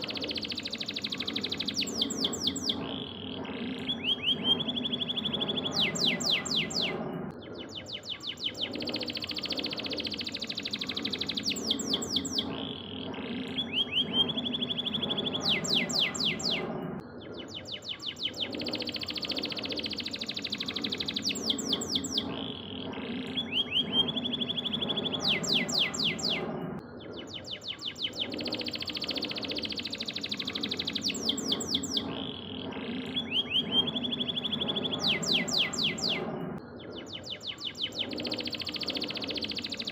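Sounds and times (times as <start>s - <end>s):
canary singing: 0.0s - 36.4s, 37.0s - 39.9s.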